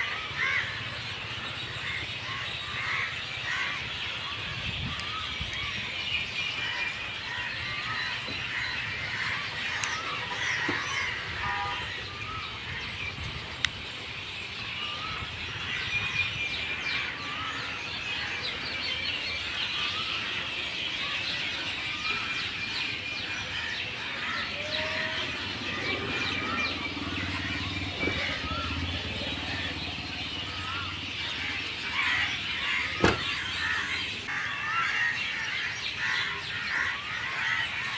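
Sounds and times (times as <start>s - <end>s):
flock of birds chirping: 0.0s - 37.9s.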